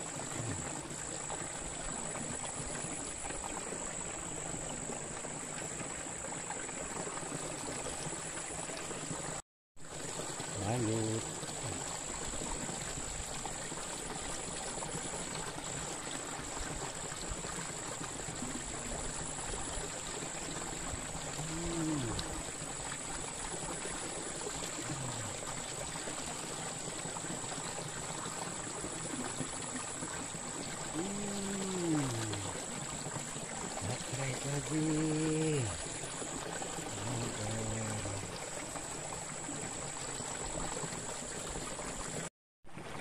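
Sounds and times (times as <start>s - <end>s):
water trickling and splashing: 0.0s - 43.0s.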